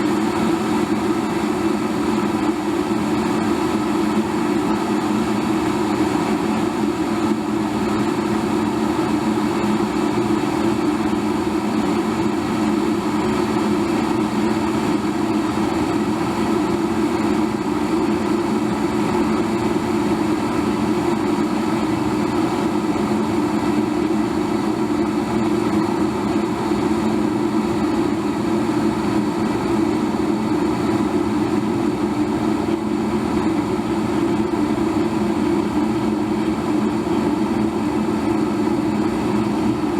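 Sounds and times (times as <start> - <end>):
electric kettle boiling: 0.0 - 39.9.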